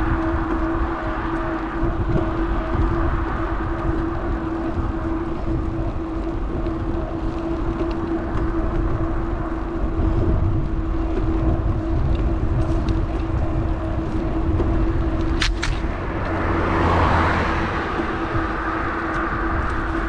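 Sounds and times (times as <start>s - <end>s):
electric motor whine: 0.0s - 20.0s
vehicle passing: 0.0s - 20.0s
wind rumbling on microphone: 0.0s - 20.0s.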